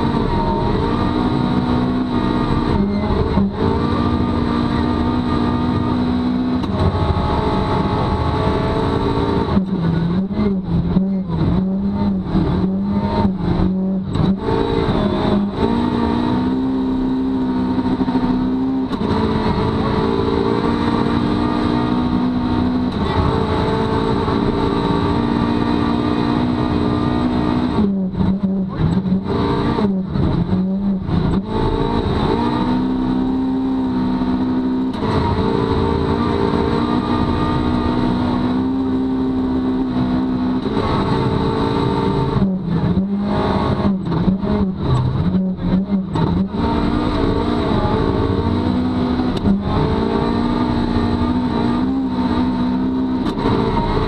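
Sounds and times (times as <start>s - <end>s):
car engine running hard: 0.0s - 54.0s
tyre and road noise on snow: 0.0s - 54.0s.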